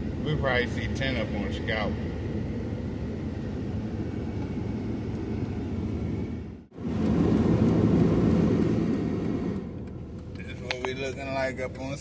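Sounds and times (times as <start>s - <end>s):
truck road and engine rumble: 0.0s - 12.0s.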